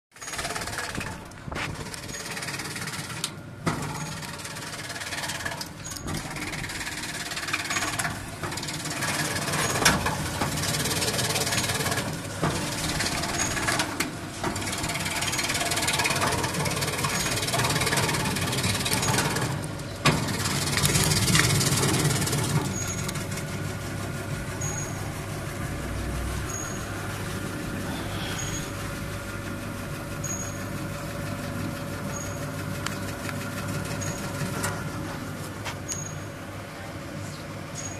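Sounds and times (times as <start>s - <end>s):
slicing machine motor humming: 0.4s - 35.2s.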